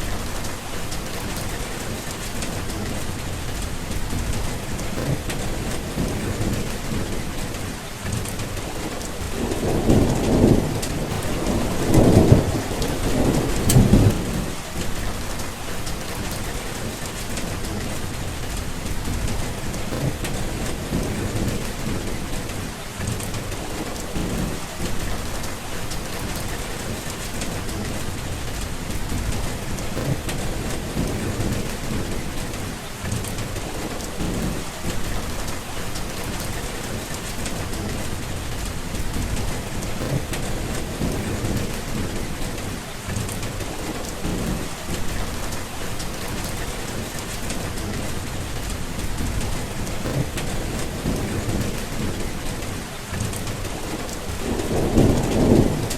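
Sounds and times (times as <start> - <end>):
heavy rain hissing: 0.0 - 55.9
low thunder rumbling: 0.0 - 55.9.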